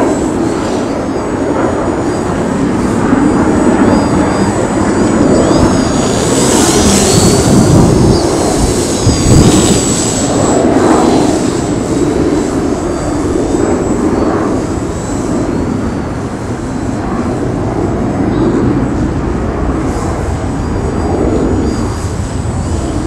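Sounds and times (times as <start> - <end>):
model airplane motor whine: 0.0 - 23.0
wind noise on microphone: 0.0 - 23.0.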